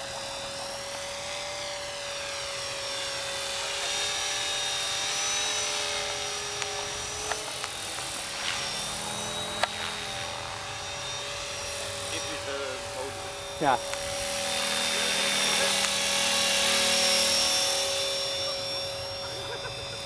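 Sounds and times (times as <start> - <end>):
model helicopter whine: 0.0 - 20.0.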